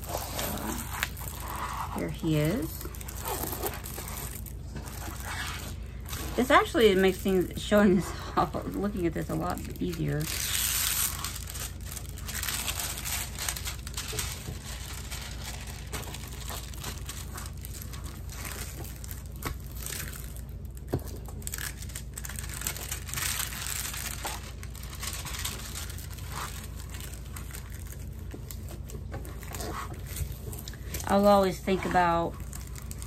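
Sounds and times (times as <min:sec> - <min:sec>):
plastic film crinkling: 0:00.0 - 0:33.0.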